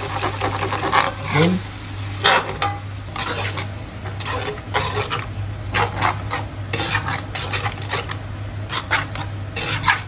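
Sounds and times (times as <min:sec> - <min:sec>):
spatula scraping a pan: 0:00.0 - 0:01.6, 0:02.2 - 0:10.0.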